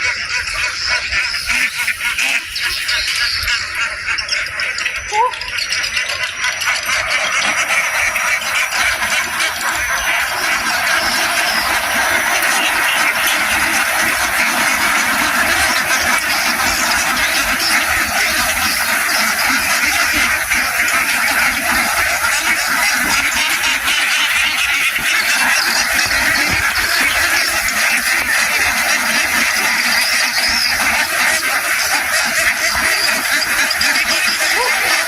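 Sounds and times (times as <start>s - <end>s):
ducks quacking: 0.0s - 35.0s.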